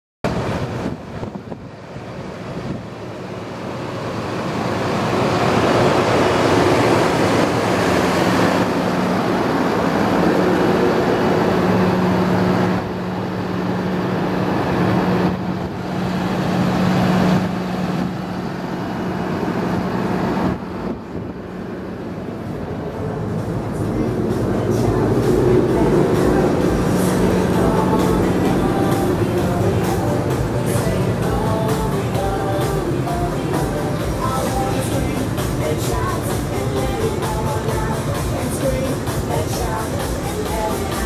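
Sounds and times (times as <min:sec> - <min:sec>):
wind: 0:00.2 - 0:41.0
low steady hum: 0:00.3 - 0:41.0
road traffic rushing: 0:00.3 - 0:41.0.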